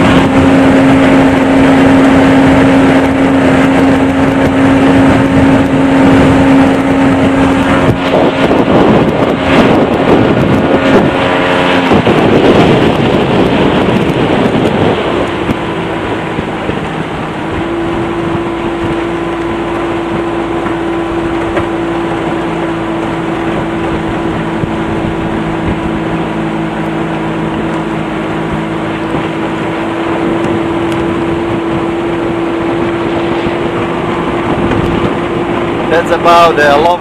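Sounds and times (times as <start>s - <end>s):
outboard motor running: 0.0s - 37.0s.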